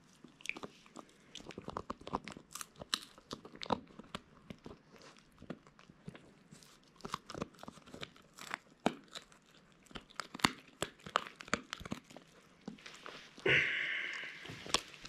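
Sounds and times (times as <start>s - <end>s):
puppy gnawing chew stick: 0.0s - 13.4s, 14.4s - 15.0s.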